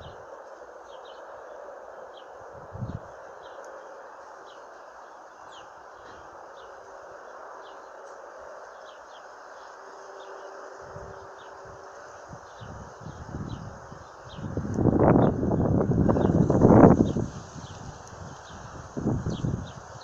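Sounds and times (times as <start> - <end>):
steady hiss: 0.0 - 20.0
small birds chirping: 0.8 - 20.0.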